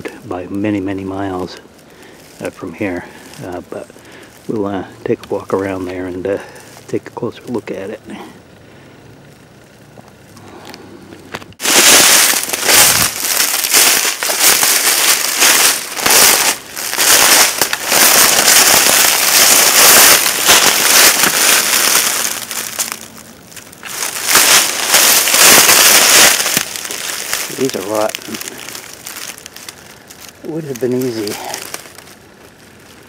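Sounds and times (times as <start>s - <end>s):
footsteps crunching dry leaves: 0.0s - 7.0s, 11.3s - 33.0s.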